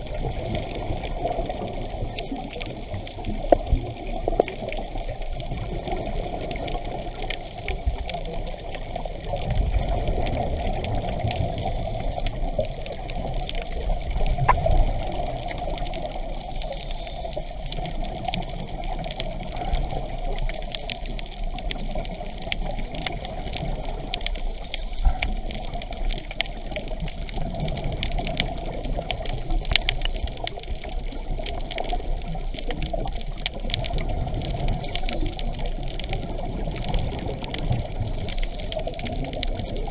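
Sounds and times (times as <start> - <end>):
exhaled bubbles: 0.0 - 39.9
underwater water wash: 0.0 - 39.9.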